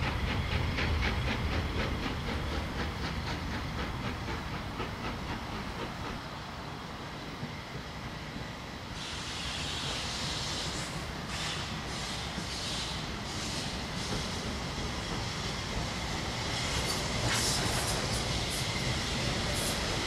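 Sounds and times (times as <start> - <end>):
low rumble of train: 0.0 - 20.0
steam locomotive exhaust beats: 0.0 - 20.0
steady hiss: 0.1 - 20.0.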